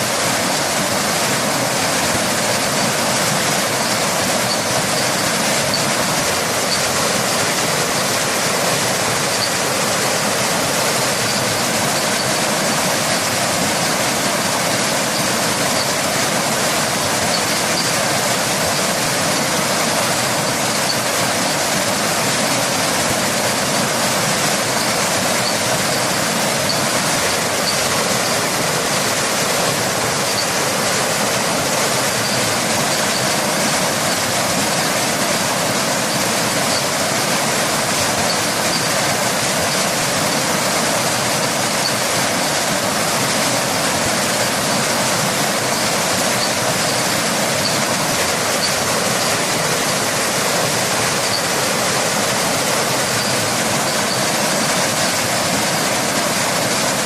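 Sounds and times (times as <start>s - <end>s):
rain: 0.0s - 57.0s
waterfall: 0.0s - 57.0s.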